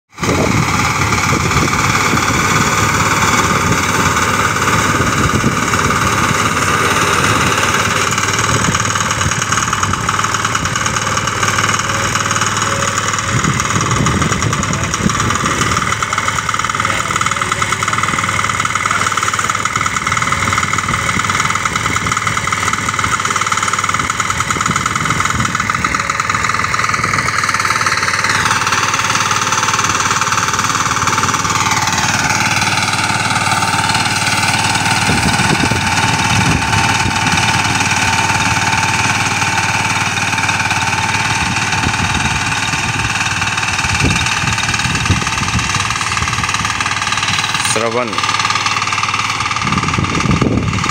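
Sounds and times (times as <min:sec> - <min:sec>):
small engine running under load: 0:00.1 - 0:50.9.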